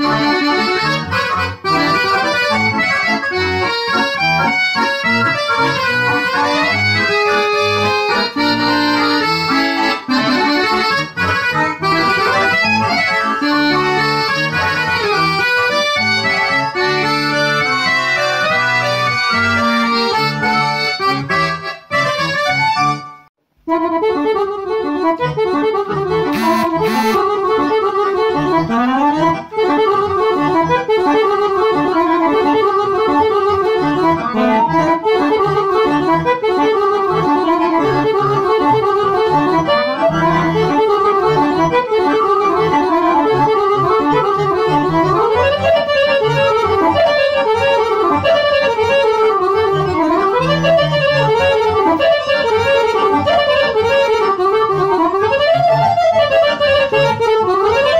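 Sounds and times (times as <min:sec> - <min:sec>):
accordions playing fast tune: 0:00.0 - 0:57.9.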